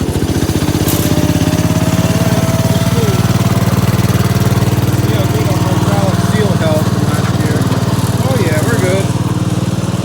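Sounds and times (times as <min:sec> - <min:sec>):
garden tractor engine running: 0:00.0 - 0:10.0.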